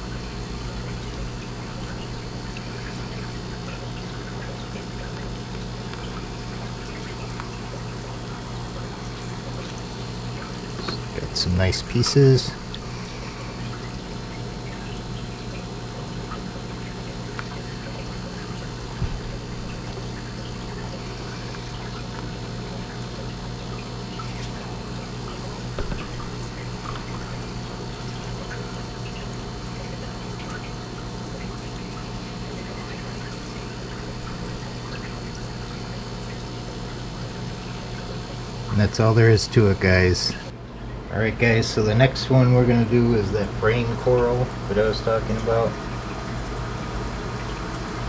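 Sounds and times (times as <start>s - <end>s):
pump hum: 0.0s - 48.0s
water trickling and pouring: 0.1s - 41.0s, 42.6s - 48.0s.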